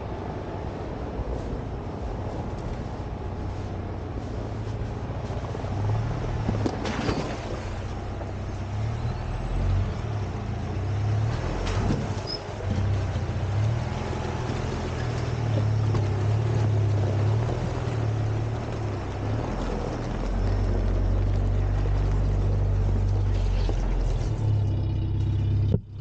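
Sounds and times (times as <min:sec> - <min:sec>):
off-road vehicle engine under load: 0:00.0 - 0:26.0
water splashing: 0:03.5 - 0:24.8.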